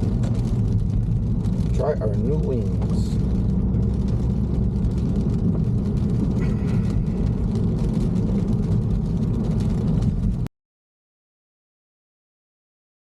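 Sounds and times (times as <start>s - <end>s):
car engine rumble: 0.0s - 10.5s
road noise: 0.0s - 10.5s.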